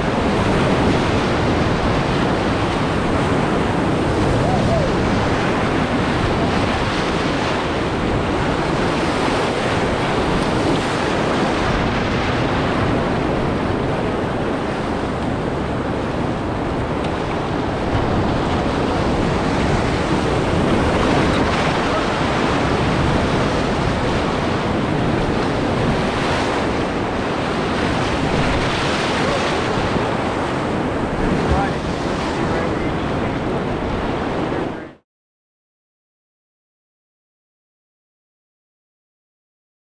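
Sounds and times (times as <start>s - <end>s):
whitewater rapids rushing: 0.0s - 15.0s, 17.3s - 34.6s.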